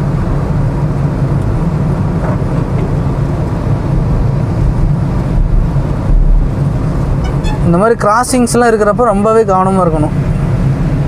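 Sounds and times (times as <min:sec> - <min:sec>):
car cabin engine and tyre noise: 0:00.0 - 0:11.0.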